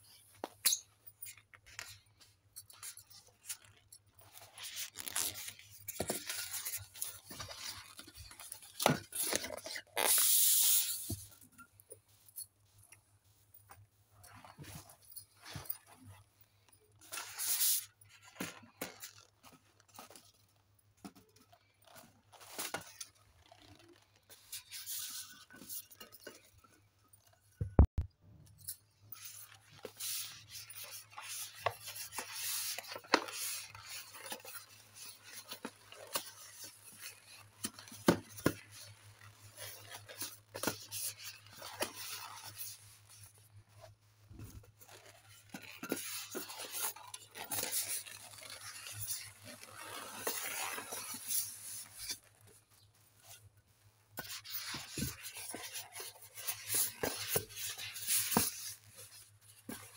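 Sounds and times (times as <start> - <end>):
balloons rubbing and rustling: 0.1 - 28.0, 29.1 - 59.9.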